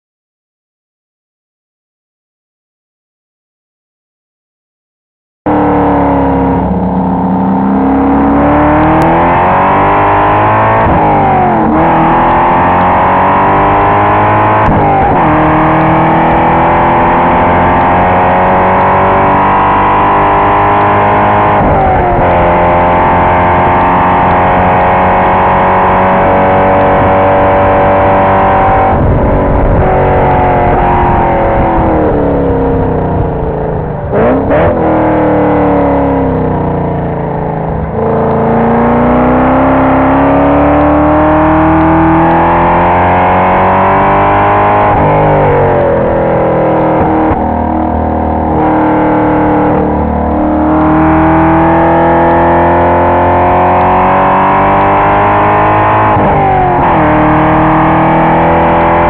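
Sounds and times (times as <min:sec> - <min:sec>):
car engine accelerating through gears: 0:05.5 - 0:59.0.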